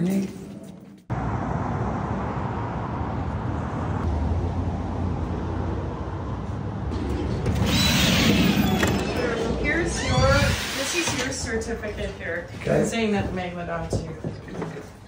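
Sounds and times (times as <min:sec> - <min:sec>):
vehicle rumble: 0:00.0 - 0:14.2.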